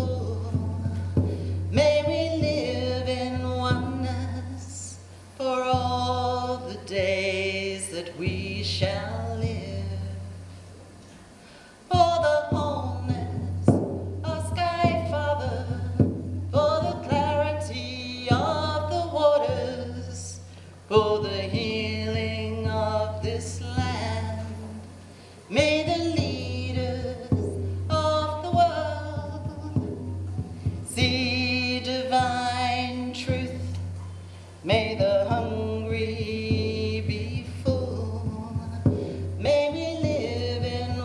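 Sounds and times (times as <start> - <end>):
person singing unaccompanied: 0.0 - 10.6, 11.8 - 41.0
steady low hum: 0.0 - 41.0.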